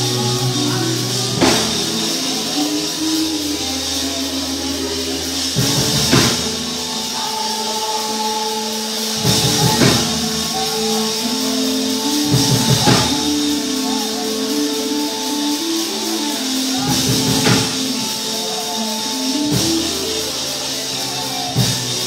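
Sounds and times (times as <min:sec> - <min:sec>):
bass line: 0:00.0 - 0:22.0
drum and cymbal hits: 0:00.0 - 0:22.0
keyboard notes: 0:00.0 - 0:22.0.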